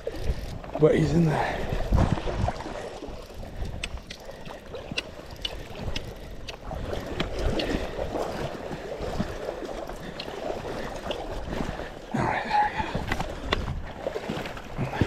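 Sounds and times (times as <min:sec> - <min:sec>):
rushing river water: 0:00.0 - 0:15.0
wind buffeting microphone: 0:00.0 - 0:15.0.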